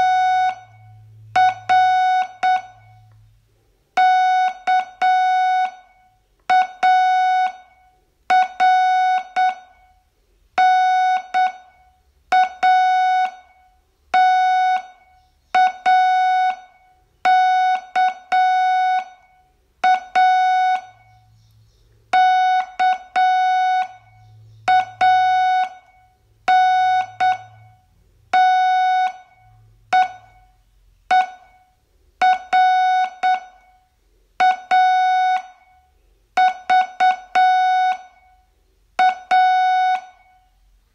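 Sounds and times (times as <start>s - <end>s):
morse code beeps: 0.0s - 3.1s, 4.0s - 10.0s, 10.6s - 21.3s, 22.1s - 40.5s.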